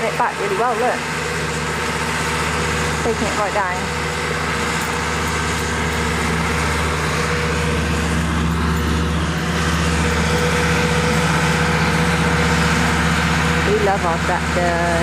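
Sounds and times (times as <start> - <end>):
mower cutting grass: 0.0 - 15.0
tractor engine running: 0.0 - 15.0.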